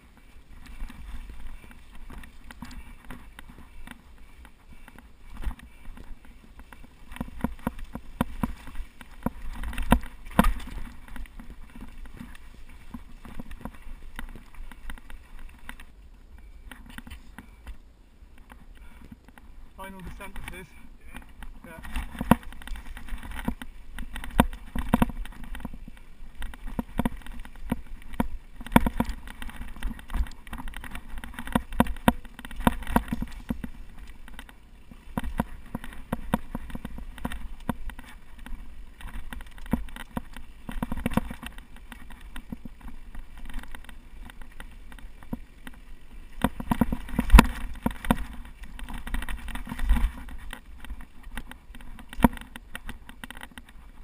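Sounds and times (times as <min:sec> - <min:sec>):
bike rattling and knocking: 0:00.0 - 0:17.8, 0:18.4 - 0:54.0.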